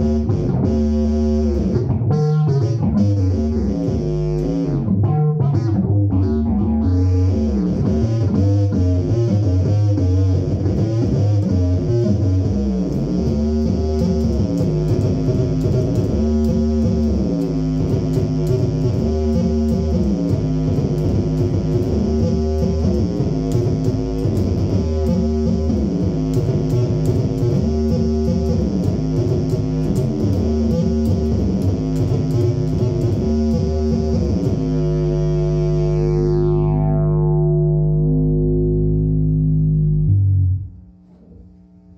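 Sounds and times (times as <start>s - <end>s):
electric bass guitar phrase: 0.0s - 40.8s
held bass chord ringing: 6.2s - 41.6s.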